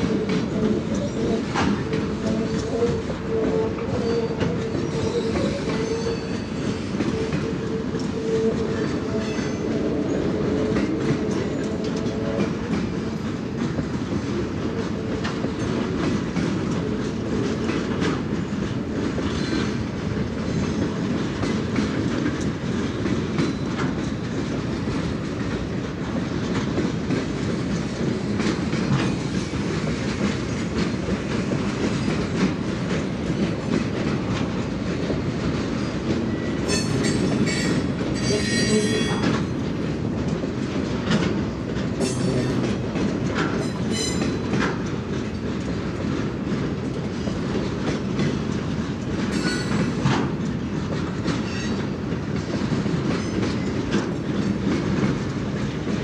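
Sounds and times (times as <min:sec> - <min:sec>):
rail joints clicking and clanking: 0:00.0 - 0:56.0
train wheels rumbling on rails: 0:00.0 - 0:56.0.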